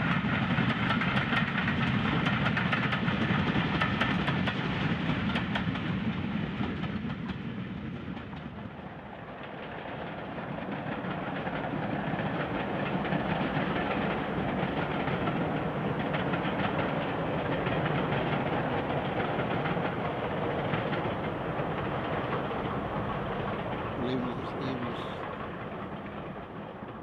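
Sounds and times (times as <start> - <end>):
steam train rumble: 0.0 - 27.0
train wheels clickety-clack: 0.0 - 27.0.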